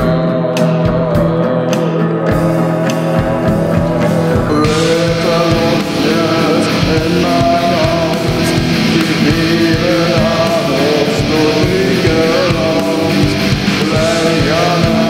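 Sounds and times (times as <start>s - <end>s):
person singing: 0.0s - 15.0s
rock song with electric guitar: 0.0s - 15.0s.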